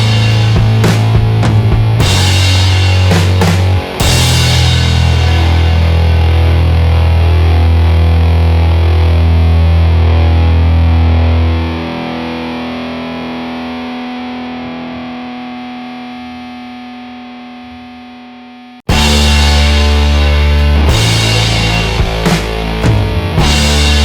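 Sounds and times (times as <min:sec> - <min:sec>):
bass: 0:00.0 - 0:15.6, 0:18.9 - 0:24.0
loud rock music: 0:00.0 - 0:16.8, 0:18.9 - 0:24.0
distorted electric guitar chord: 0:00.0 - 0:24.0.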